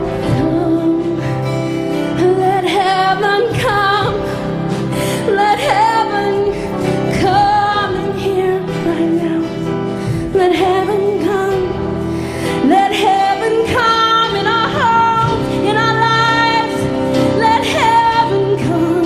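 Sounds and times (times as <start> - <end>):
woman singing lead: 0.0 - 19.0
worship band playing: 0.0 - 19.0.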